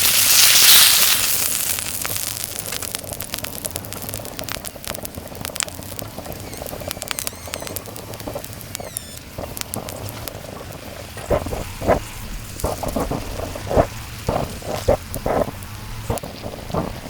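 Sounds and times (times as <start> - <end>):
fat spattering and popping: 0.0 - 17.0
meat sizzling on a grill plate: 0.0 - 17.0.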